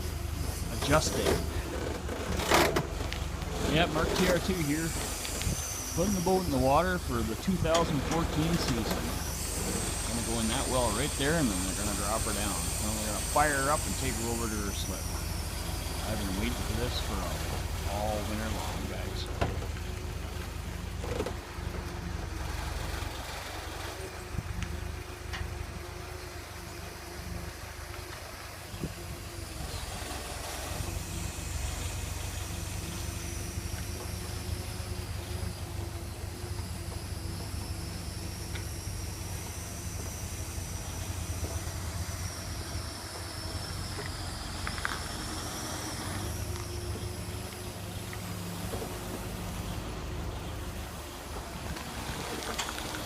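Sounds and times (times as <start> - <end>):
boat lift engine idling: 0.0 - 53.0
faint high whine: 0.0 - 53.0.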